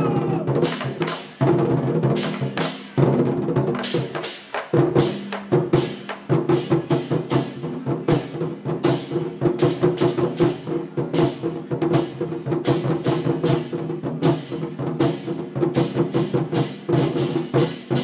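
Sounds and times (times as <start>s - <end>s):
large drums beaten in driving rhythm: 0.0s - 18.0s.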